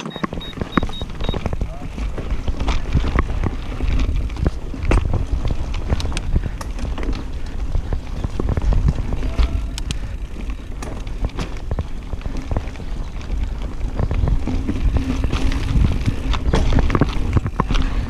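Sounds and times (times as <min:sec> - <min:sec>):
bike rattling over bumps: 0:00.0 - 0:18.0
wind on microphone: 0:00.4 - 0:18.0.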